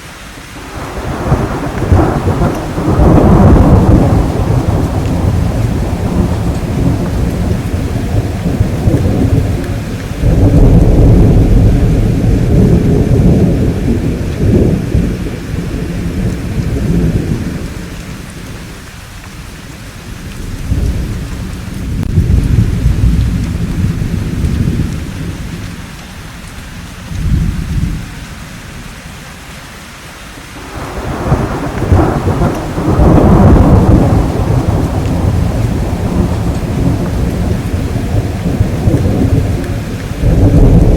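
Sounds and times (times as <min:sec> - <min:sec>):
steady rainfall: 0:00.0 - 0:40.9
rolling thunder: 0:00.7 - 0:28.9, 0:30.6 - 0:40.9.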